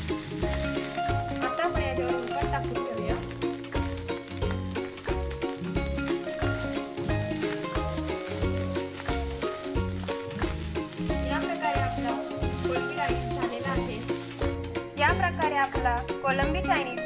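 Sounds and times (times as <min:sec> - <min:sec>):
rice sizzling in a wok: 0:00.0 - 0:14.6
background music with steady beat: 0:00.0 - 0:17.0.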